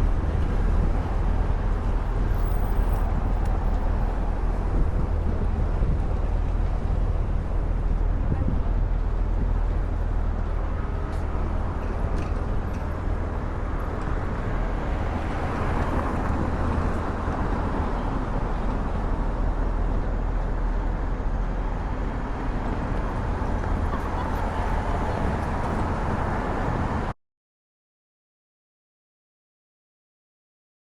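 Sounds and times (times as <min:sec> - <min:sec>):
traffic rumble: 0:00.0 - 0:27.2
urban hum: 0:00.0 - 0:27.2.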